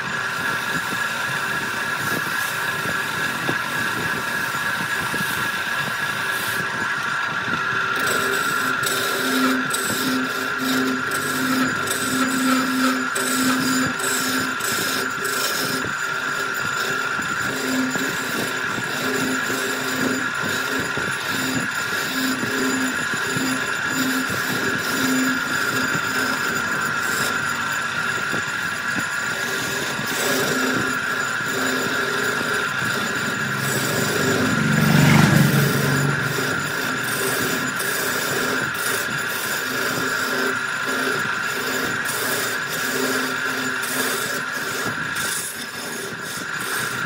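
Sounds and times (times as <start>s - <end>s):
tool cutting spinning wood: 0.0s - 47.0s
wood lathe whine: 0.0s - 47.0s.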